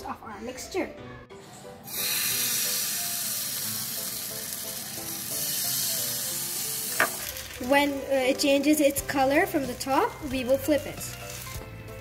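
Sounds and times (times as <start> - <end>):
batter sizzling in frying pan: 1.9 - 12.0.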